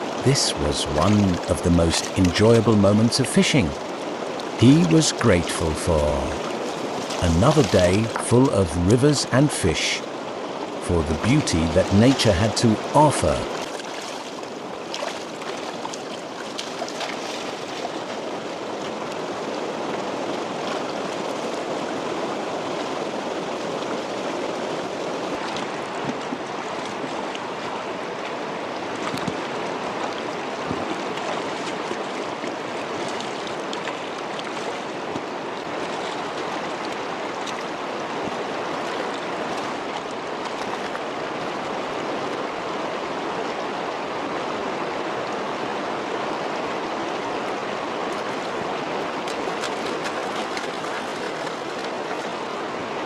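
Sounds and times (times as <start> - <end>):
river water flowing over stones: 0.0 - 53.0.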